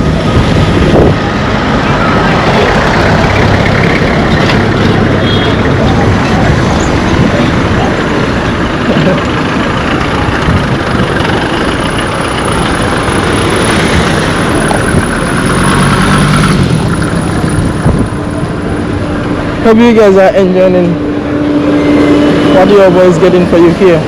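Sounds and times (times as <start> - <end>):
engine hum: 0.0 - 24.0
road traffic passing: 0.0 - 24.0.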